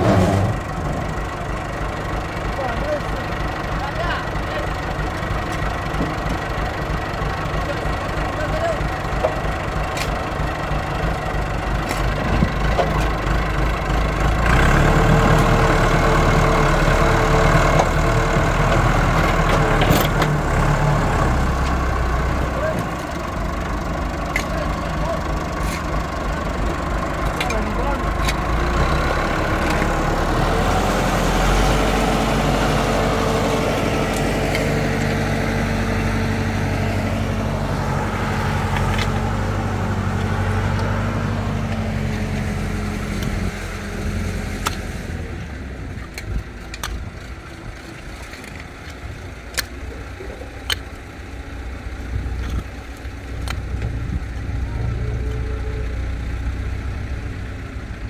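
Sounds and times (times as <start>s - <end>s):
tractor diesel engine working: 0.0s - 58.0s.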